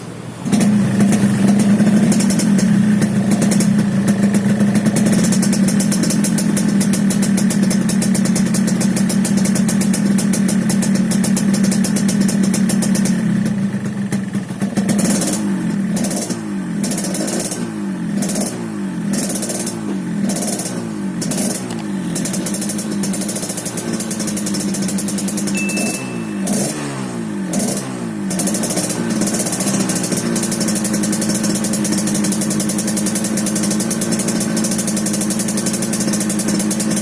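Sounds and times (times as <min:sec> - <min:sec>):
two-stroke motorcycle engine revving: 0:00.0 - 0:37.0.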